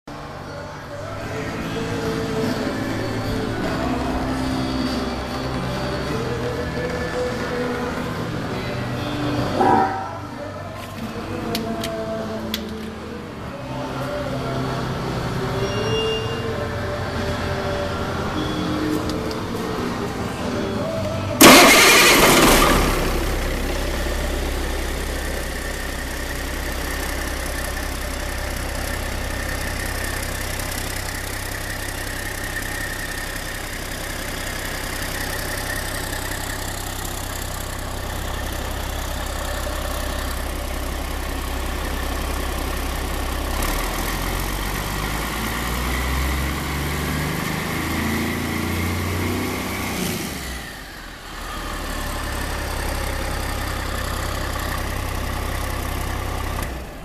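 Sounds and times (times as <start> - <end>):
diesel engine idling and revving: 0.0 - 57.0.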